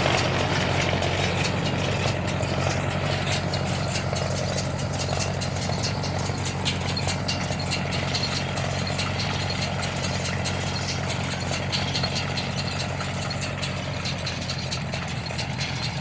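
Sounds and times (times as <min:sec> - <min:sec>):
engine running: 0:00.0 - 0:16.0
hay baler clicking and clattering: 0:00.0 - 0:16.0.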